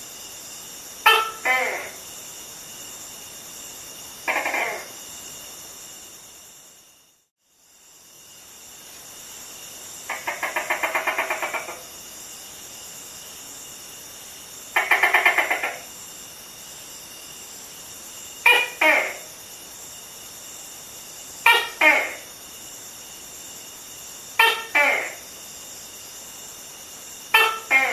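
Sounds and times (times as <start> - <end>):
high-pitched background hiss: 0.0 - 27.9.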